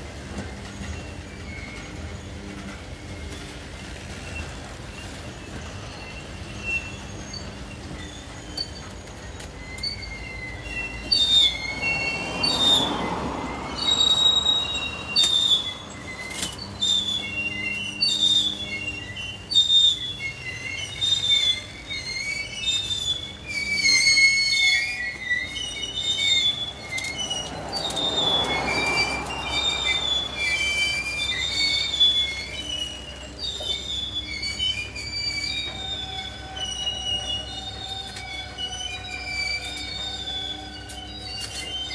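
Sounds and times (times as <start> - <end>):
low train rumble: 0.0 - 41.9
train wheels squealing on rails: 0.0 - 41.9.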